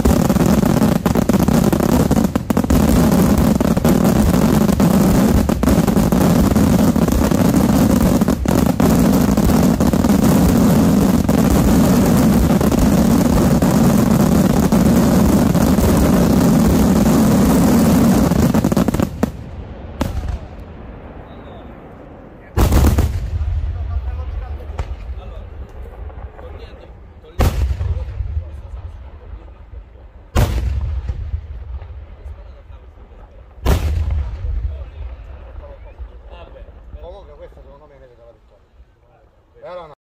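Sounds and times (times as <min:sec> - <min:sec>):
firework bangs: 0:00.0 - 0:21.8, 0:22.4 - 0:37.8
fireworks barrage rumble: 0:00.0 - 0:40.0.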